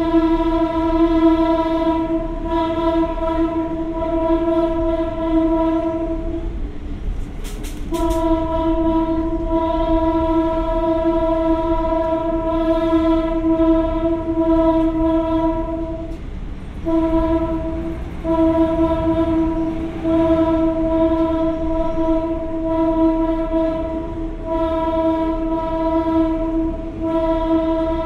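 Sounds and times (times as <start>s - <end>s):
train horn blasts: 0.0s - 6.7s, 7.4s - 16.2s, 16.8s - 28.0s.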